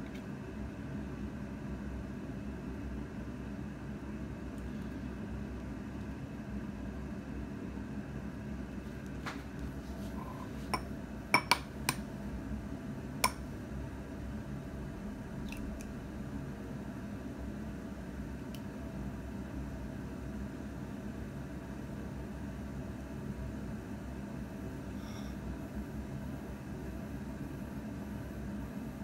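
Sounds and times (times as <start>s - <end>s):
steady hiss and hum: 0.0s - 29.0s.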